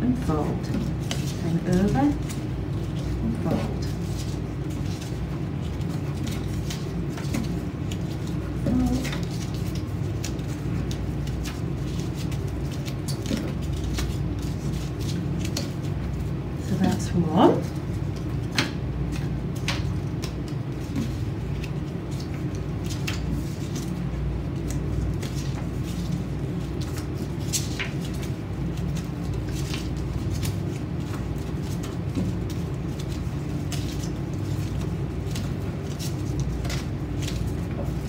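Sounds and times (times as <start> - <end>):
paper crinkling: 0.0 - 38.0
steady low hum: 0.0 - 38.0.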